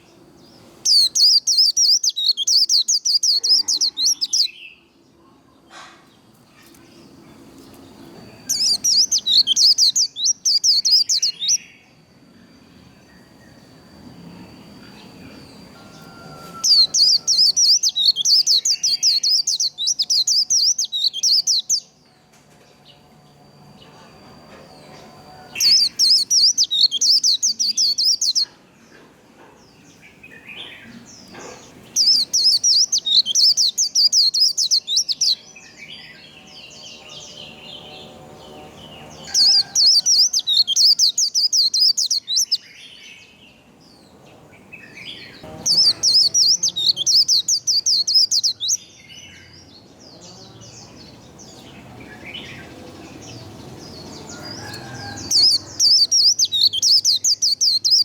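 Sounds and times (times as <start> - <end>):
bird warbling song: 0.0 - 4.8, 6.5 - 12.0, 12.8 - 22.0, 23.7 - 28.6, 29.7 - 58.0.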